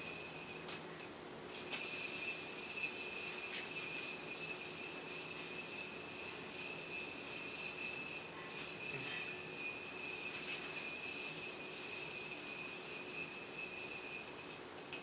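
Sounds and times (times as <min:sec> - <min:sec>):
yoyo whirring on its string: 0:00.0 - 0:15.0.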